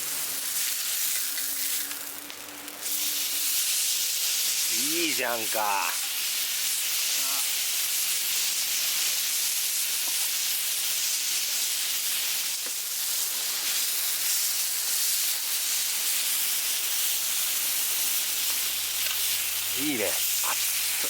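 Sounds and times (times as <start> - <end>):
meat sizzling over fire: 0.0 - 21.0.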